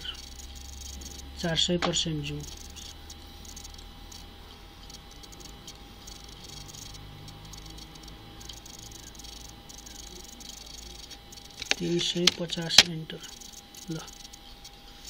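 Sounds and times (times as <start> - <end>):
faint high whine: 0.0 - 15.0
low electrical hum and hiss: 0.0 - 15.0.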